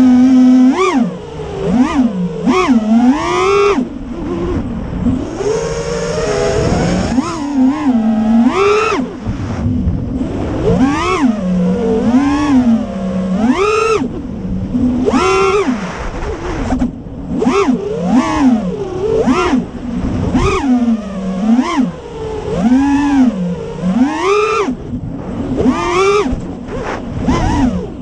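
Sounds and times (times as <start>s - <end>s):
drone motors whining: 0.0s - 28.0s
wind rumble on microphone: 0.0s - 28.0s.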